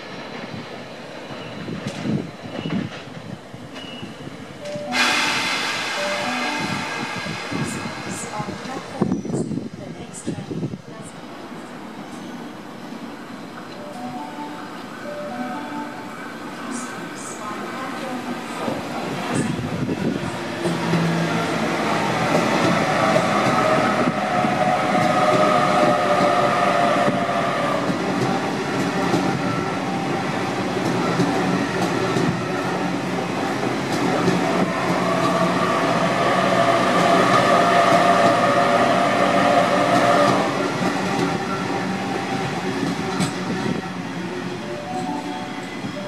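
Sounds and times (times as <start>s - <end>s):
high even train whine: 0.0s - 46.0s
train rail rumble: 0.0s - 46.0s.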